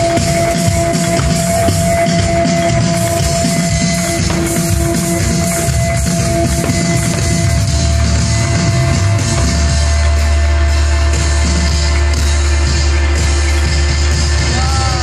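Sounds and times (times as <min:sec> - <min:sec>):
deep bass note: 0:00.0 - 0:15.0
loud live music: 0:00.0 - 0:15.0.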